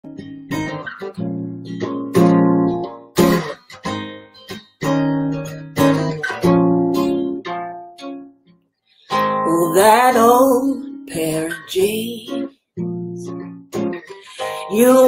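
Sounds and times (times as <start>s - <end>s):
acoustic guitar strumming chords: 0.0s - 8.5s, 9.1s - 15.0s.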